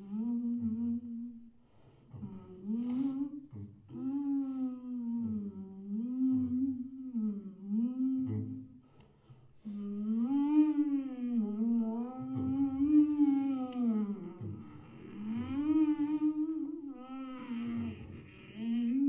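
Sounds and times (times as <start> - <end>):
person humming a melody: 0.0 - 8.9, 9.6 - 19.0.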